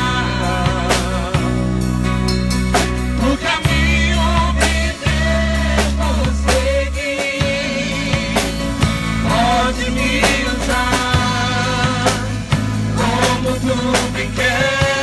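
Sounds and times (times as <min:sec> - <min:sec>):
drum kit: 0:00.0 - 0:15.0
instrumental worship music: 0:00.0 - 0:15.0.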